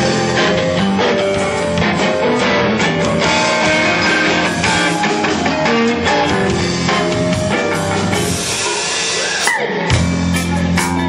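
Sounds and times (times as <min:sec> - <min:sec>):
electric guitar: 0:00.0 - 0:11.0
live rock band playing: 0:00.0 - 0:11.0.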